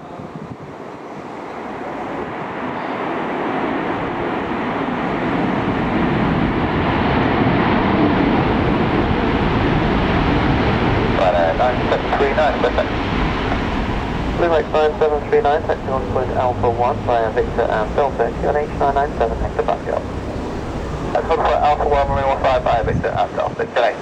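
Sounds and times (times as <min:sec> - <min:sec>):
airliner engines roaring: 0:00.0 - 0:24.0.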